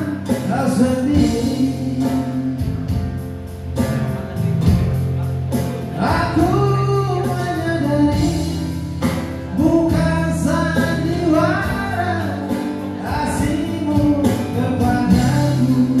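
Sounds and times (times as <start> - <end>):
man singing into a microphone: 0.0 - 3.2, 5.5 - 16.0
held bass notes: 0.0 - 16.0
live band playing: 0.0 - 16.0.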